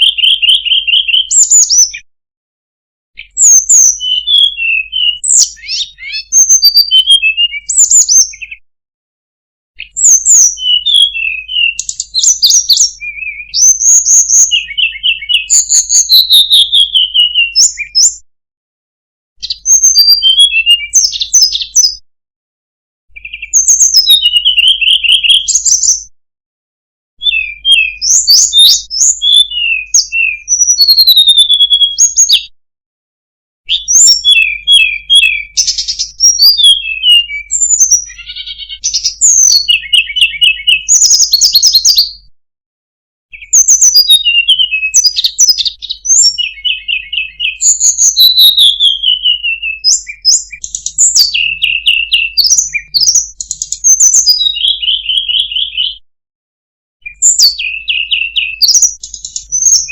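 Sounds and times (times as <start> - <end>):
songbird singing: 0.0 - 2.0, 3.2 - 8.6, 9.8 - 18.2, 19.4 - 22.0, 23.1 - 26.1, 27.2 - 32.4, 33.7 - 42.3, 43.3 - 56.0, 57.0 - 59.9.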